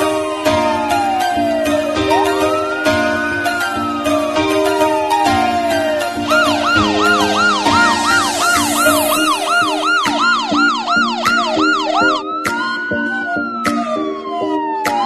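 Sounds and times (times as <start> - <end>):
background music: 0.0 - 15.0
electronic siren: 0.0 - 15.0.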